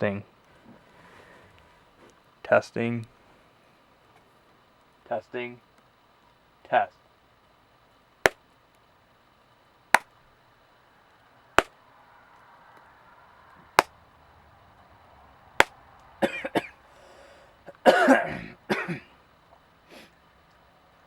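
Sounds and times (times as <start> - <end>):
faint hiss: 0.0 - 21.0.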